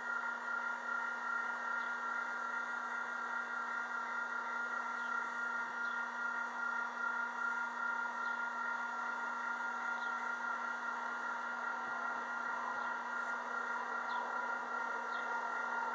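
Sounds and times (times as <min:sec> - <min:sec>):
mechanical hum and hiss: 0:00.0 - 0:15.9.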